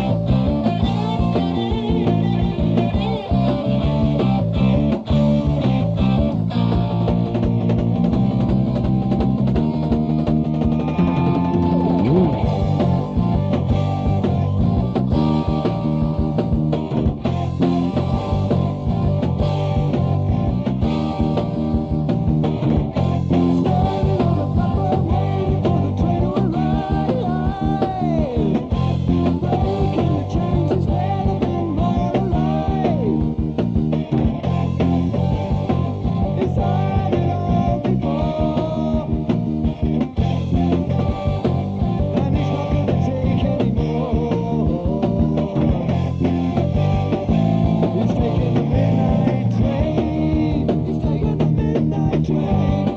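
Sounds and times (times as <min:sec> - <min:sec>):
heavy metal band playing: 0:00.0 - 0:52.9.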